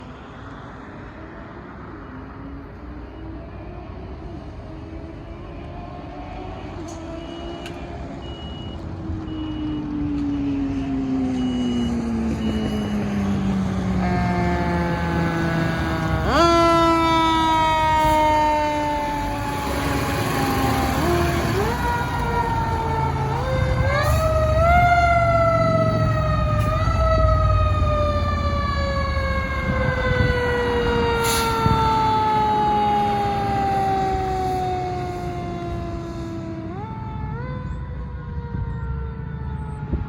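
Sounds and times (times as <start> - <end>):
fire engine siren: 0.0 - 40.0
truck engine rumbling: 4.1 - 40.0.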